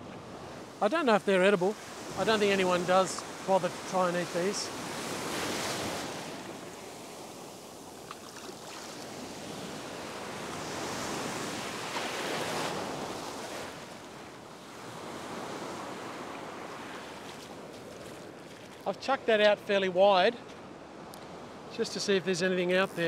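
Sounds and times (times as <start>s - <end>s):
small waves breaking on beach: 0.0s - 21.8s.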